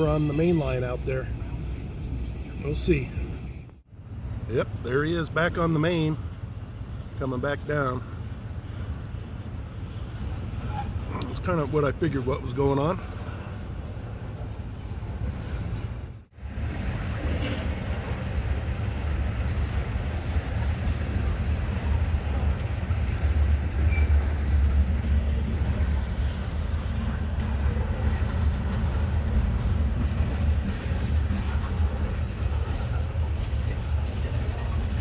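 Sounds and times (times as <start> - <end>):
locomotive engines rumbling: 0.0 - 35.0.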